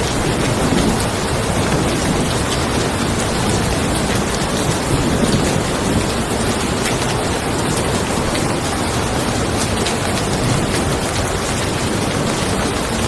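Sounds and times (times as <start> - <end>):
rain falling on a car: 0.0 - 13.0
thunder rumbling: 0.0 - 13.0.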